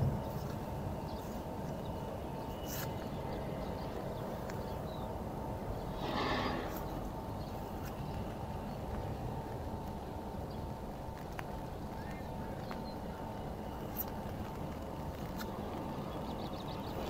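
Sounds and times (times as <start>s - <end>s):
rainy street ambience: 0.0s - 6.0s, 6.6s - 17.0s.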